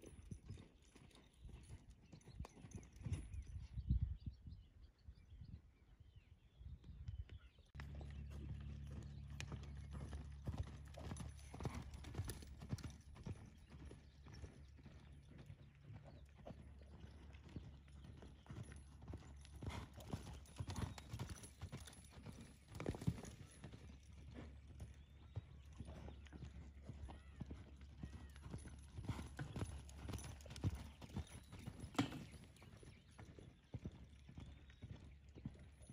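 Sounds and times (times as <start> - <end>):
horse hoofbeats on dirt: 0.0 - 3.8, 7.3 - 35.9.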